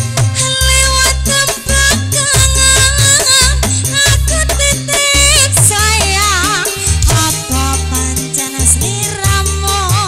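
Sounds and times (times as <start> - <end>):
instrumental accompaniment: 0.0 - 10.0
woman singing into a microphone: 0.0 - 10.0.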